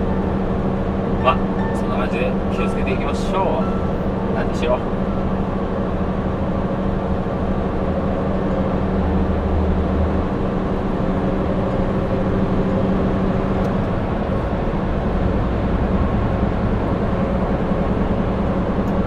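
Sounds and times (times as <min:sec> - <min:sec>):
diesel truck engine drone: 0:00.0 - 0:19.0.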